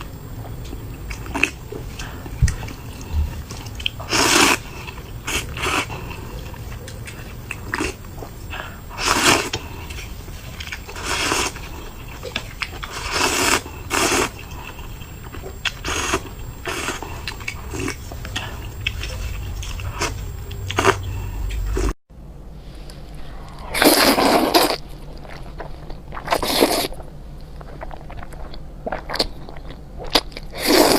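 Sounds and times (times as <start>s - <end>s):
person chewing: 0.0s - 22.0s, 23.2s - 30.9s.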